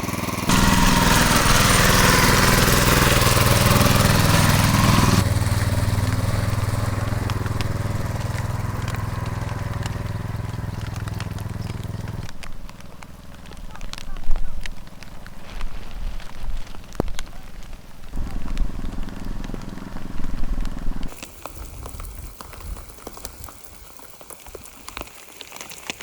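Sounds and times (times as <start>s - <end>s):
walk-behind tractor engine running: 0.0s - 26.0s.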